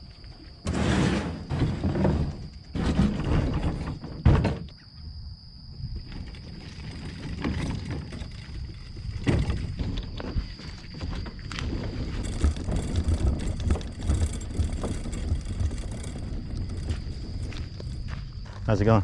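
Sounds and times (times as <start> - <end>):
rustling and scraping: 0.0 - 4.8, 6.0 - 18.7.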